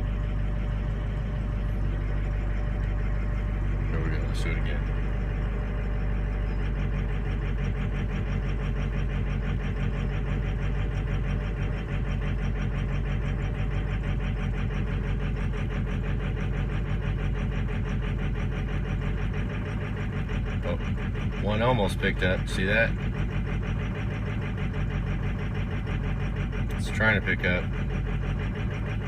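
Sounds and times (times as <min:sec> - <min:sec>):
diesel engine idling rough: 0:00.0 - 0:29.0.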